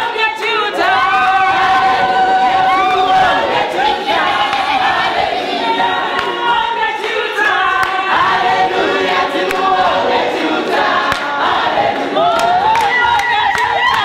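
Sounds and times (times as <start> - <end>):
congregation singing: 0.0 - 14.0.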